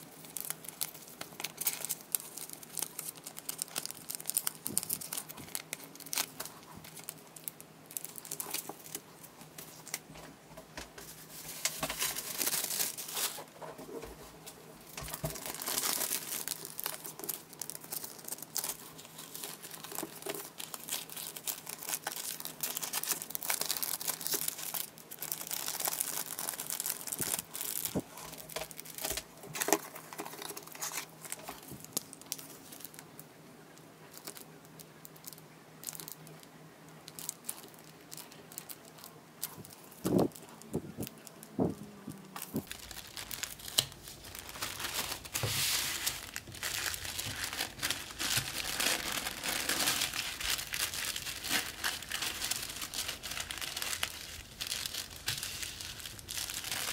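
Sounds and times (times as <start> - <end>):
cellophane sleeves crinkling: 0.0 - 10.2, 11.0 - 56.9.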